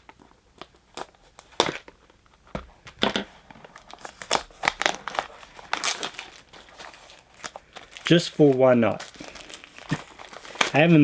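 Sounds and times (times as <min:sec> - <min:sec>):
foil wrapper crinkling and tearing: 0:00.0 - 0:02.4, 0:03.3 - 0:11.0.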